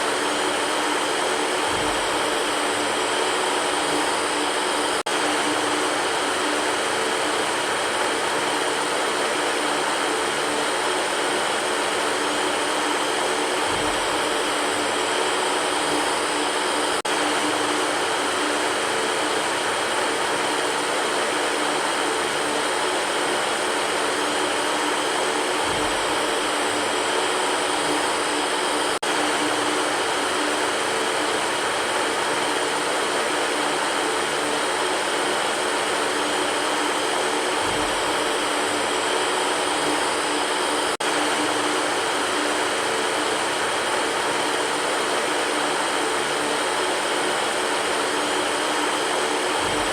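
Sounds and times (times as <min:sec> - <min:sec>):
electric fan air rush: 0:00.0 - 0:49.9
faint motor hum: 0:00.0 - 0:49.9.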